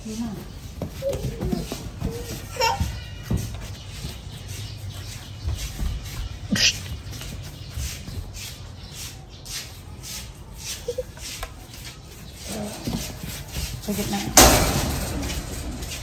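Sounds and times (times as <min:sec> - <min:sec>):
faint squeaks: 0:00.0 - 0:16.0.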